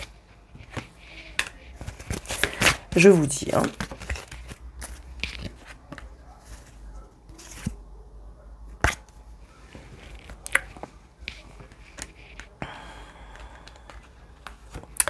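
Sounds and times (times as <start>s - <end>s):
cards rustling: 0.0s - 7.8s, 8.8s - 15.0s.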